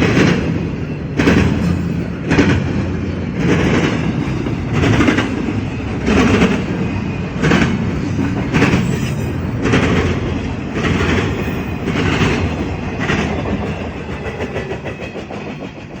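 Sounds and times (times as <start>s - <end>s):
train wheels clacking over rail joint: 0.0s - 16.0s.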